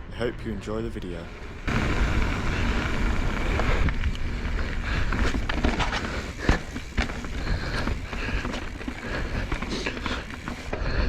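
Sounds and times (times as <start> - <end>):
bike knocking and rattling: 0.6 - 11.0
wind rumble on microphone: 1.2 - 11.0.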